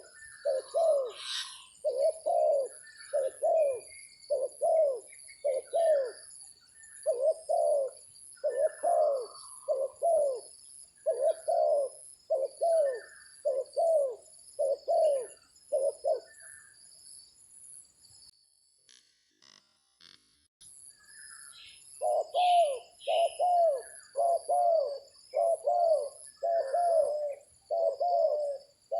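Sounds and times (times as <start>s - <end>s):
dove cooing: 0.0s - 16.6s, 22.0s - 28.9s.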